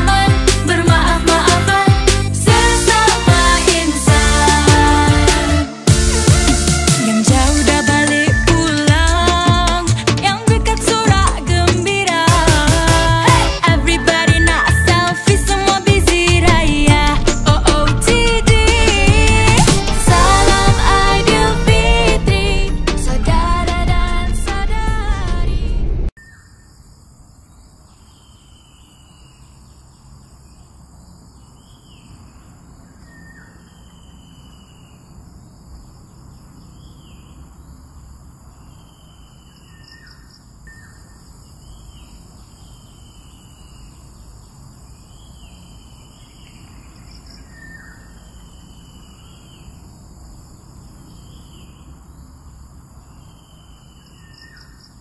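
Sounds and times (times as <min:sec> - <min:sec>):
insects droning: 0:07.0 - 0:25.4, 0:26.2 - 0:55.0.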